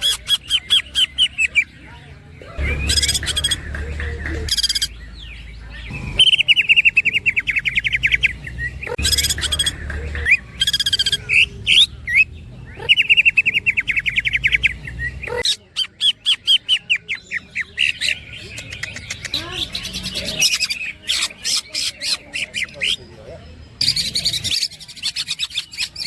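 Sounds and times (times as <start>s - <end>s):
harsh bird chattering calls: 0.0s - 23.2s, 23.8s - 26.0s.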